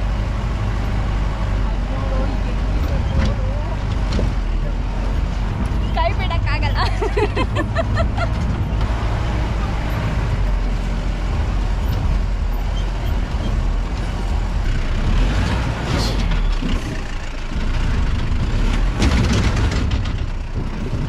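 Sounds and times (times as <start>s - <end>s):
vehicle engine low rumble: 0.0s - 21.0s
knocks and rattles: 2.8s - 9.1s, 9.8s - 21.0s.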